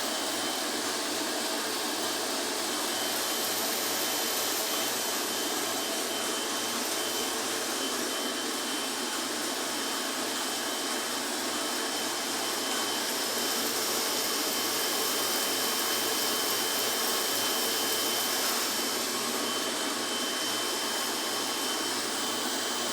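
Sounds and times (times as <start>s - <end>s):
high machine whine: 0.0s - 22.9s.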